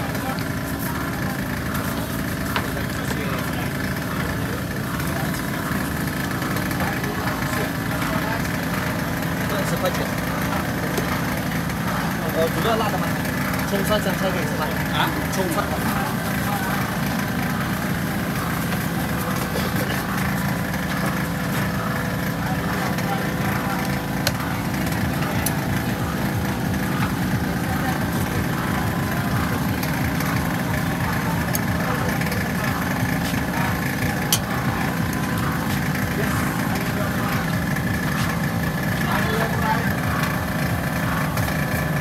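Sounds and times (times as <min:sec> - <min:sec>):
indistinct background chatter: 0:00.0 - 0:42.0
machinery rumbling: 0:00.0 - 0:42.0
small engine droning: 0:00.0 - 0:42.0.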